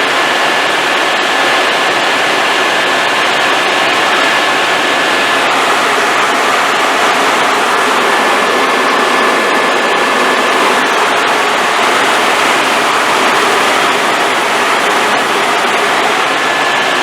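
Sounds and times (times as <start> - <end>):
faint high whine: 0.0 - 17.0
helicopter engine and rotor noise: 0.0 - 17.0.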